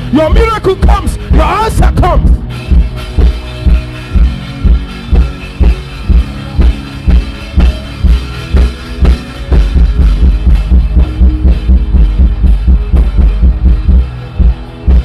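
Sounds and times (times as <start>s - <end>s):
heavy bass drum beat: 0.0s - 15.0s.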